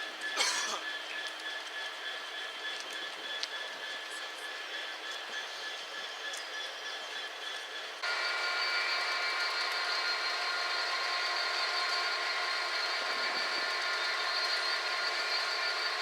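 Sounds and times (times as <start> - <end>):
locomotive hum with high whine: 0.0 - 16.0.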